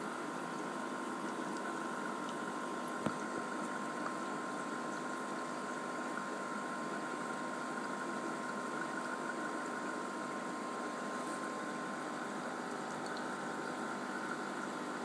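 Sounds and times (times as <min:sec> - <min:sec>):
aquarium air pump humming: 0:00.0 - 0:15.0.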